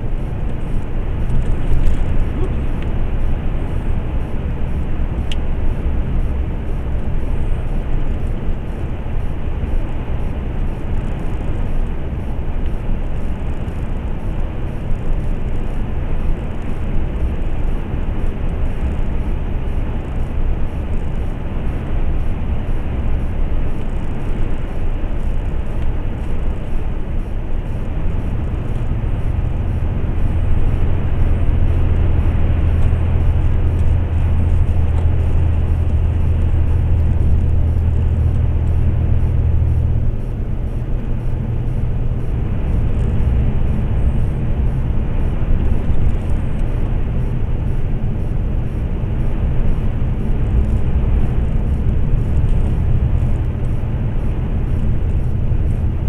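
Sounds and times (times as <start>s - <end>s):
low hum: 0.0s - 56.0s
road noise: 0.0s - 56.0s
truck engine drone: 0.0s - 56.0s.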